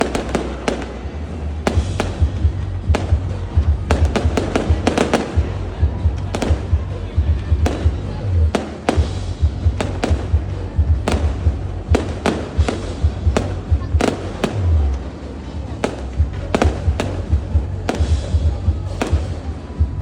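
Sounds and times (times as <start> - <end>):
fireworks bangs: 0.0 - 20.0
deep thuds rumbling: 1.6 - 15.1, 15.8 - 20.0.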